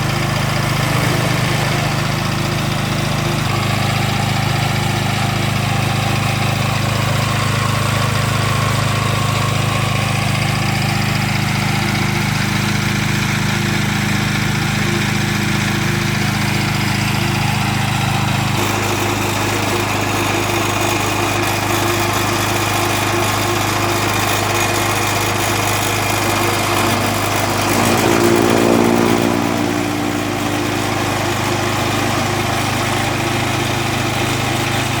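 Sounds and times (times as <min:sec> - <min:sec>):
small petrol engine running: 0:00.0 - 0:35.0.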